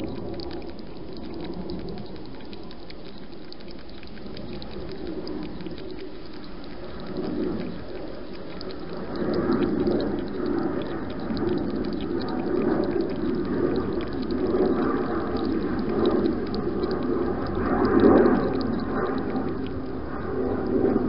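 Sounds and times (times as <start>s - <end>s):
hedgehog lapping water: 0.0s - 21.0s.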